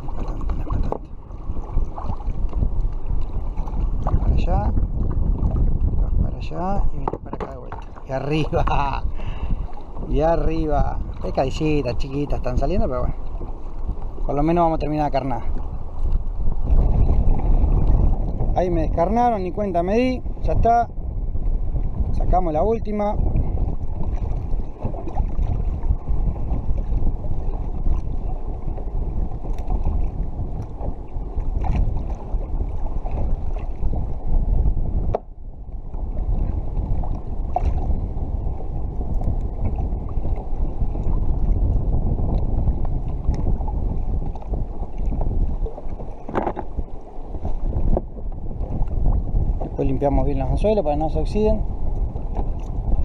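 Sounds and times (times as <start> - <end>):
choppy sea water: 0.0 - 53.0
wind buffeting microphone: 0.0 - 53.0.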